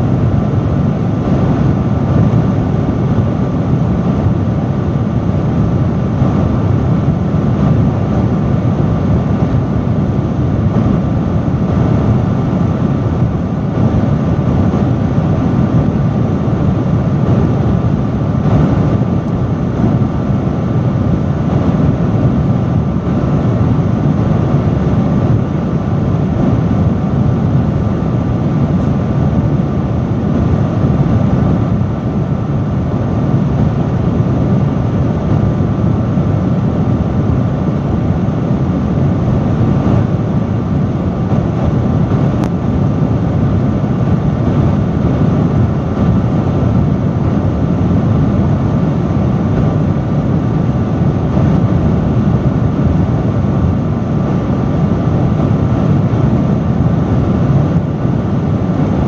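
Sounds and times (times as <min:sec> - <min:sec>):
industrial fan running: 0:00.0 - 0:59.0.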